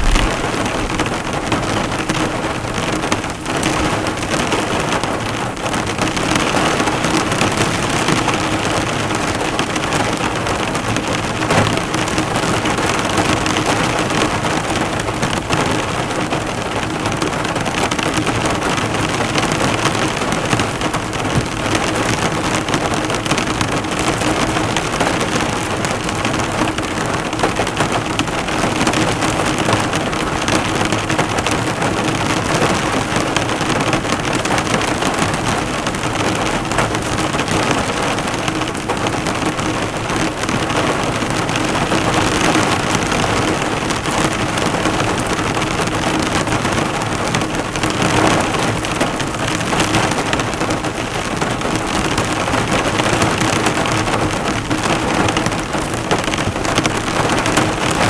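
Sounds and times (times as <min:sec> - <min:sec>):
heavy rain on car metal: 0:00.0 - 0:58.0.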